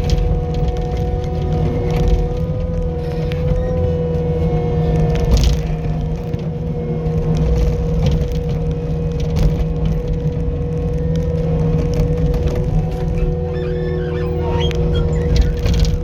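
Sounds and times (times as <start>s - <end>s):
skid steer loader engine running: 0.0s - 16.0s.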